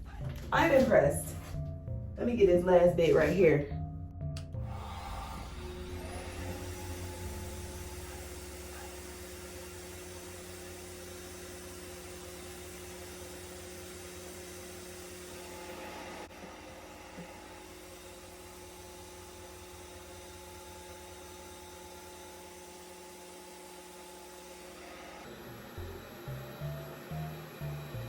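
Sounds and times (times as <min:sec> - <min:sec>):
hair dryer running: 0:04.6 - 0:28.0.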